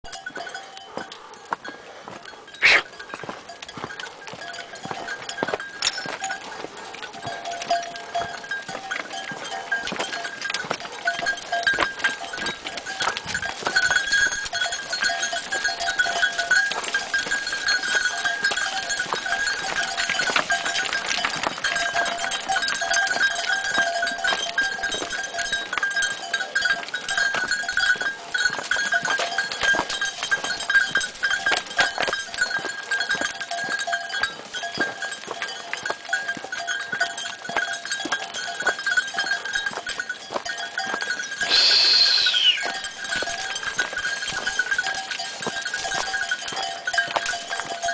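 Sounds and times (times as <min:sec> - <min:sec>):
goat bells clanking: 0:00.0 - 0:47.9
hooves clattering on stones: 0:00.0 - 0:47.9.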